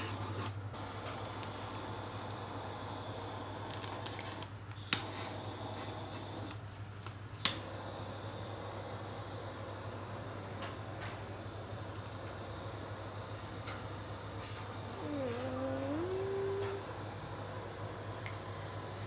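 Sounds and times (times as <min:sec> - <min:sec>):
gas torch burning: 0:00.0 - 0:19.0.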